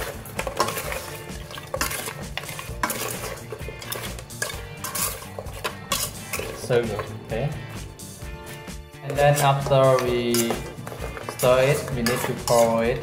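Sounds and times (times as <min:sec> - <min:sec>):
metal ladle scraping a pot: 0:00.0 - 0:07.4, 0:08.0 - 0:13.0.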